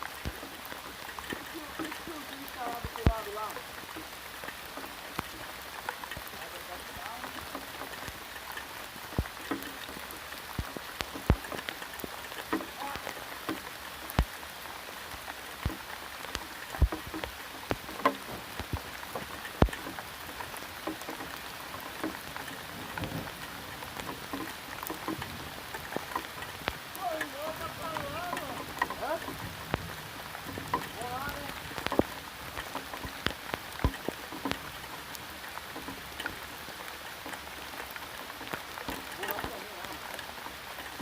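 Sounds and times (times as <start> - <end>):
raindrops tapping nearby: 0.0 - 41.0
steady rain falling: 0.0 - 41.0.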